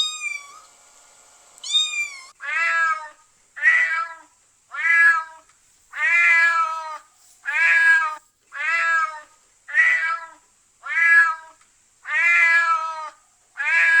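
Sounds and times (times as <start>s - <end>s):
cat meowing: 0.0s - 0.7s, 1.6s - 14.0s.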